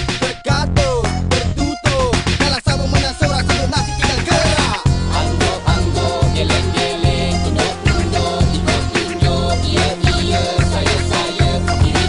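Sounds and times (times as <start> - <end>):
hip-hop song with heavy bass: 0.0 - 12.0.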